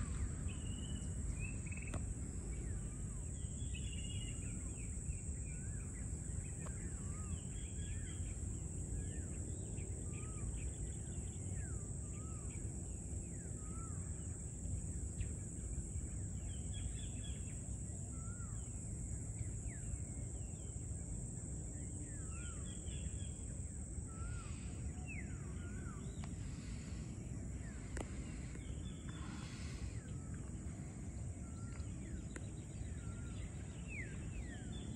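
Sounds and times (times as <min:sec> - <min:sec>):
high-pitched insect drone: 0:00.0 - 0:34.9
low background rumble: 0:00.0 - 0:34.9.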